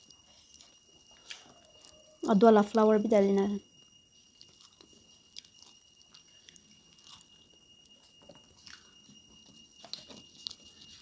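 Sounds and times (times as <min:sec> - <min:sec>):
person chewing meat: 0:00.0 - 0:02.2, 0:04.0 - 0:11.0.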